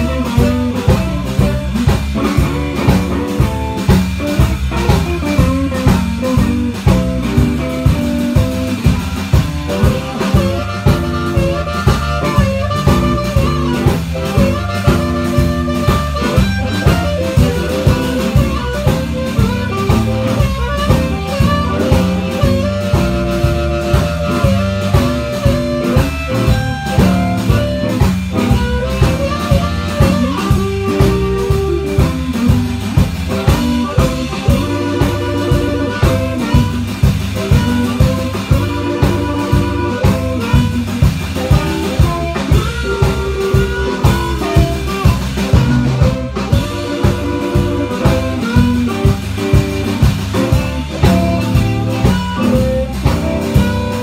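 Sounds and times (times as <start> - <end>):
drum kit steady beat: 0.0 - 54.0
electric guitar: 0.0 - 54.0
harmonica playing lead notes: 0.0 - 54.0.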